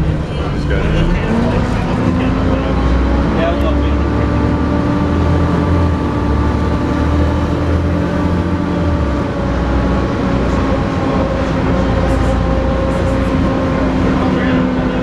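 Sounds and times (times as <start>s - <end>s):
bus diesel engine whining: 0.0s - 15.0s.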